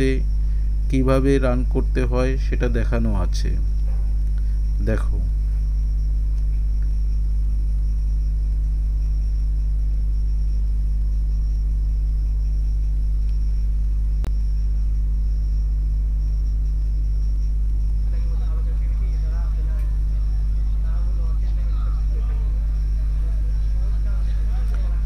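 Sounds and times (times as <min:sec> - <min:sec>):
low rumble and hum: 0:00.0 - 0:25.0.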